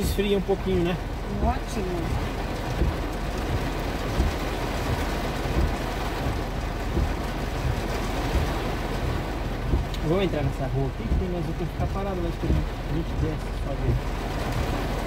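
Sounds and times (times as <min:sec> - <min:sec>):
heavy rain on car roof: 0:00.0 - 0:15.0
low thumps: 0:00.0 - 0:15.0.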